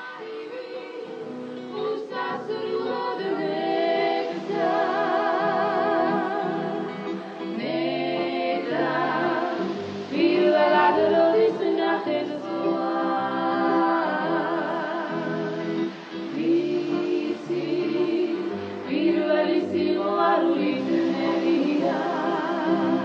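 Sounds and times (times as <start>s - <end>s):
person singing with vibrato: 0.0s - 23.0s
sustained musical accompaniment: 0.0s - 23.0s.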